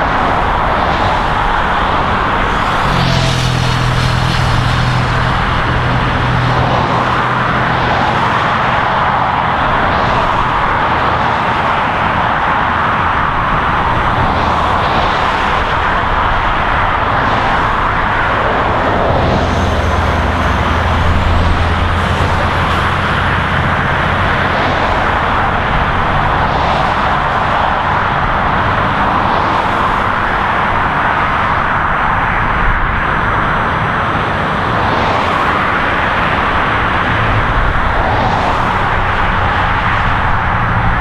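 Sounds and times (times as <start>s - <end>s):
heavy engine drone: 0.0s - 41.0s
highway traffic noise: 0.0s - 41.0s
vehicles passing on highway: 0.0s - 41.0s.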